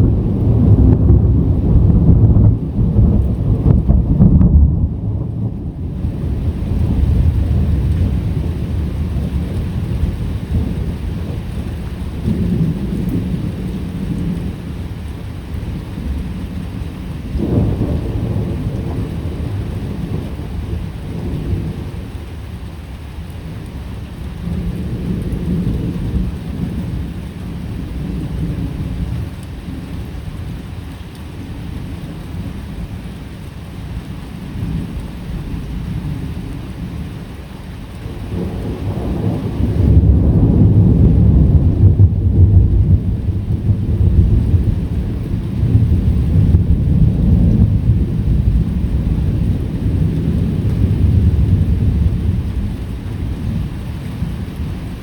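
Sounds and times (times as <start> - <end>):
thunder rumbling: 0.0 - 22.6, 23.4 - 30.6, 34.4 - 55.0
steady rain: 0.0 - 55.0.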